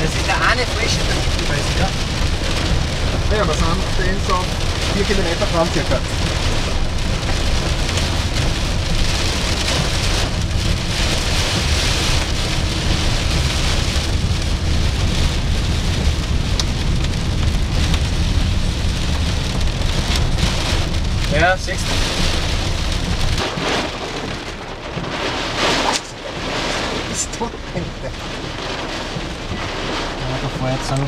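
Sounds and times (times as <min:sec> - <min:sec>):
heavy rain on vehicle roof: 0:00.0 - 0:31.0
low road rumble: 0:00.0 - 0:31.0.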